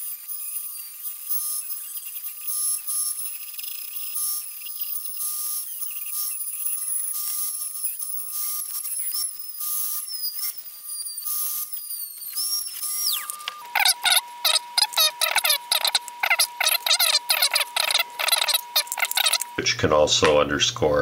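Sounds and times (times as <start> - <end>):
rotary tool grinding metal: 0.0 - 19.6.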